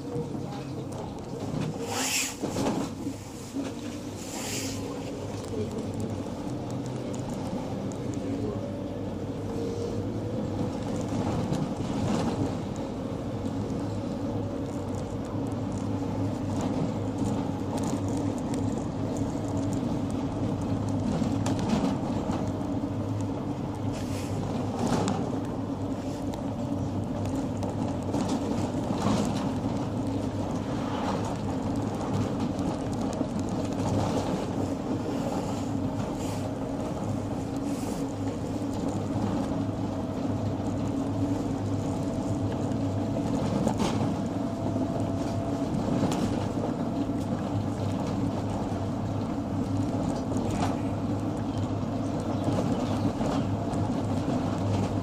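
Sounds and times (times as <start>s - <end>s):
engine and road hum: 0.0s - 55.0s.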